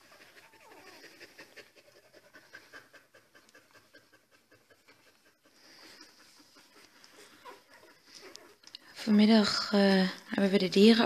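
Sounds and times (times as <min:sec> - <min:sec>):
dog panting: 0:00.0 - 0:08.9.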